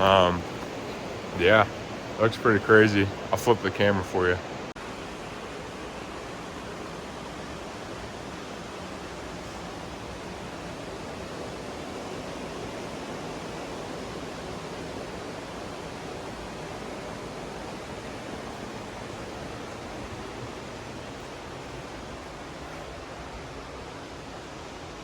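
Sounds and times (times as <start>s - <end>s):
creek water rushing: 0.0s - 25.0s.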